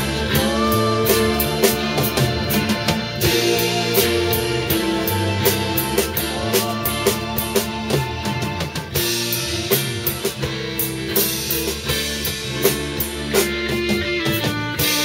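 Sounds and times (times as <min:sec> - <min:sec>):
drum kit beat: 0:00.0 - 0:15.0
electric guitar: 0:00.0 - 0:15.0
strummed guitars: 0:00.0 - 0:15.0.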